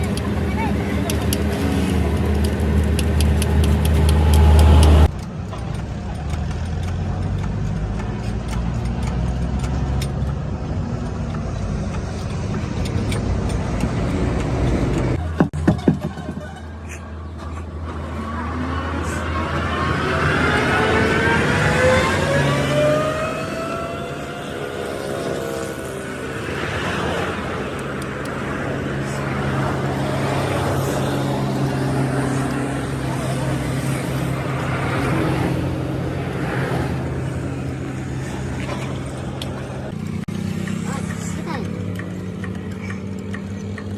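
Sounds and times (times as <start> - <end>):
truck engine running: 0.0 - 16.5, 23.5 - 43.9
noisy background: 0.0 - 43.9.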